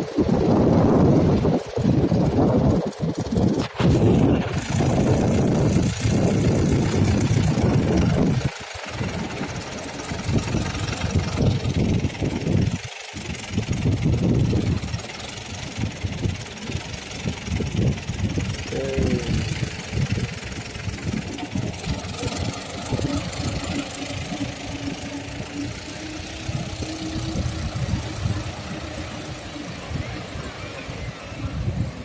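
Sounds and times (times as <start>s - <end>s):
engine idling with low knock: 0.0s - 32.0s
steady hum: 0.0s - 32.0s.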